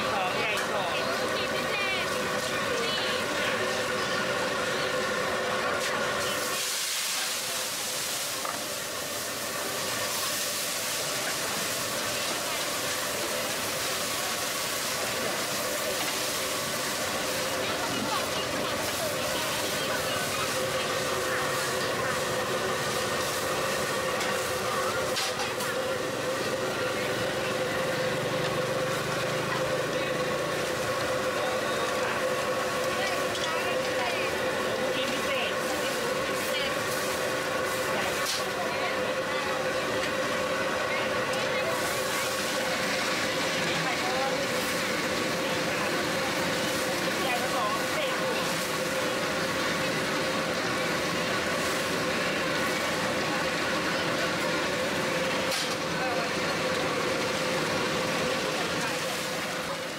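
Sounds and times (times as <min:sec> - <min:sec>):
faint voices: 0:00.0 - 0:59.9
mechanical hum: 0:00.0 - 0:59.9
roaring hiss of open fire: 0:00.0 - 0:59.9.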